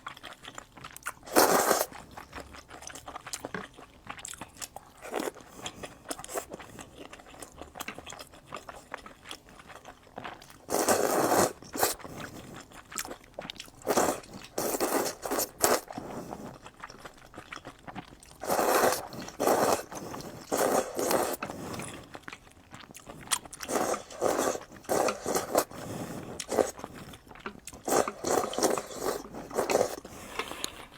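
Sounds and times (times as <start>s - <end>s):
chewing and crunching food: 0.0s - 30.9s.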